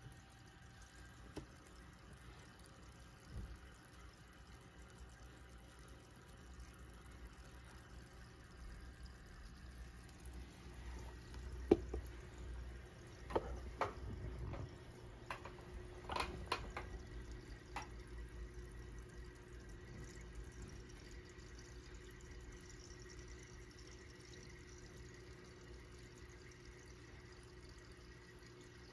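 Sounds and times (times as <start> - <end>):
steady low hum: 0.0 - 28.9
water drips plopping: 0.0 - 28.9.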